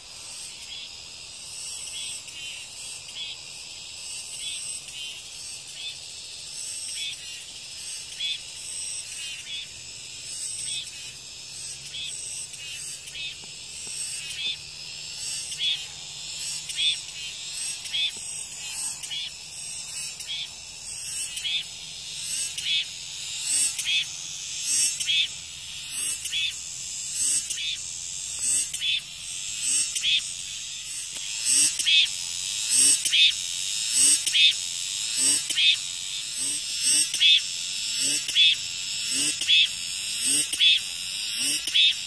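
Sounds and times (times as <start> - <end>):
cicadas singing: 0.0 - 42.0.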